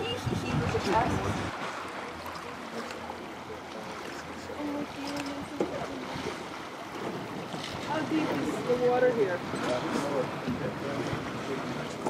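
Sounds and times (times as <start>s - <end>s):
water lapping around a boat: 0.0s - 12.0s.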